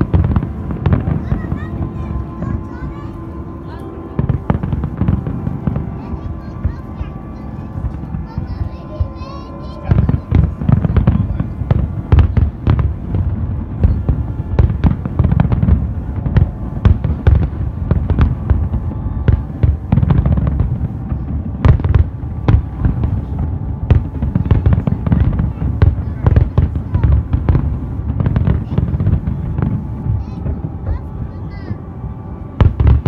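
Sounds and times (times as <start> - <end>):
fireworks bangs: 0.0 - 33.0
low rumble: 0.0 - 33.0.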